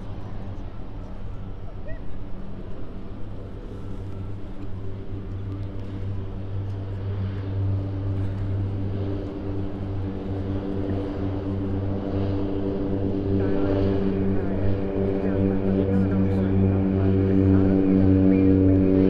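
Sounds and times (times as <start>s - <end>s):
propeller plane drone: 0.0s - 19.0s.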